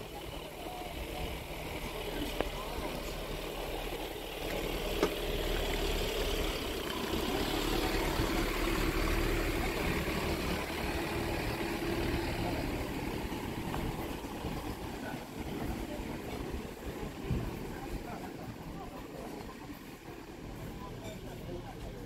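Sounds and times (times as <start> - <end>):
van engine idling: 0.0 - 22.0.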